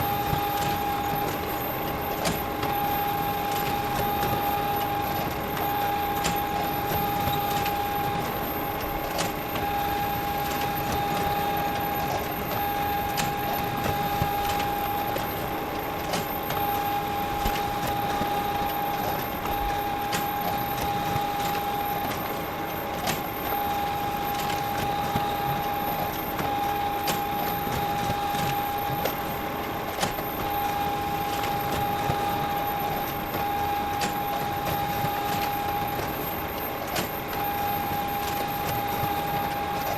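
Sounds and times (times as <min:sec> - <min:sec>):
photocopier whirring: 0:00.0 - 0:39.9.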